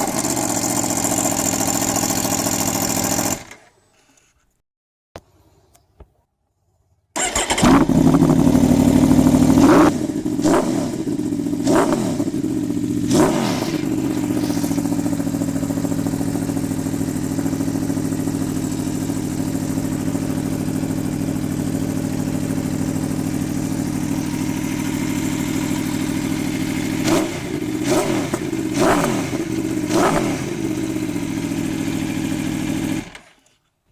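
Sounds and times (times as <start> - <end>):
motorcycle engine idling and revving: 0.0 - 3.7, 7.2 - 33.4.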